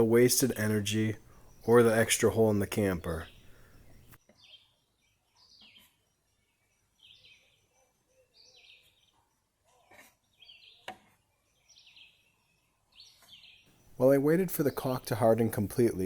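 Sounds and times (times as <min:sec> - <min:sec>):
small bird chirping: 0:00.0 - 0:15.4.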